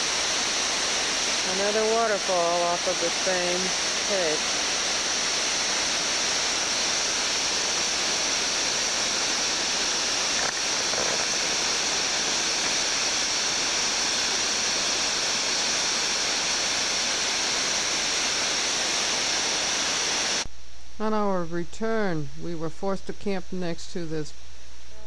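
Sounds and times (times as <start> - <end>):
waterfall rushing: 0.0 - 20.5.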